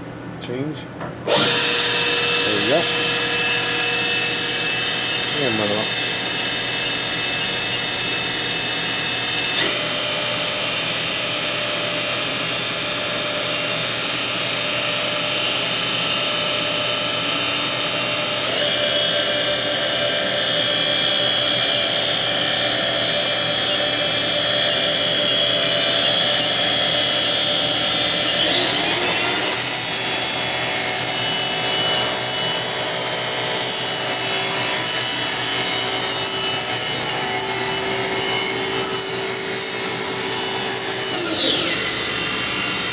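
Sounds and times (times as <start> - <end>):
machine spindle whine: 1.3 - 42.9.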